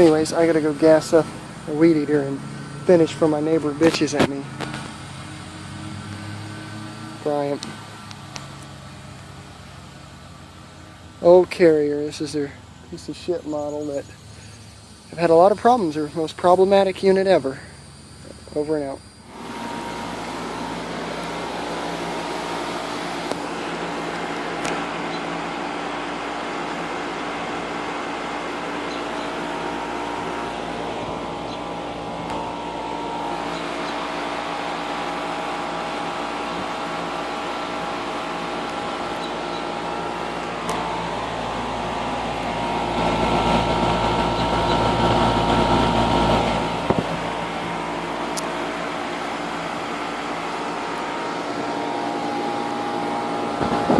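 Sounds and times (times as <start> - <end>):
condensing unit fan humming: 0.0 - 53.9.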